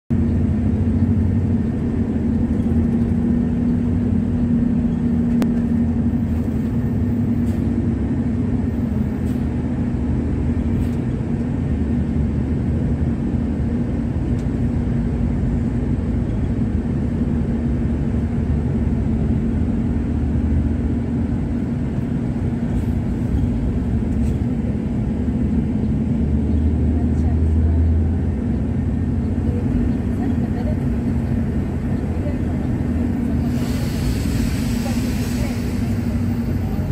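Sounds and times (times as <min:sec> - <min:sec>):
constant low hum: 0:00.1 - 0:36.9
vehicle engine and road rumble: 0:00.1 - 0:36.9.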